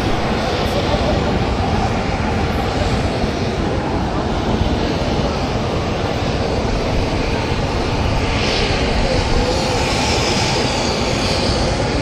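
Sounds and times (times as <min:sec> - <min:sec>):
helicopter rotor noise: 0:00.0 - 0:12.0.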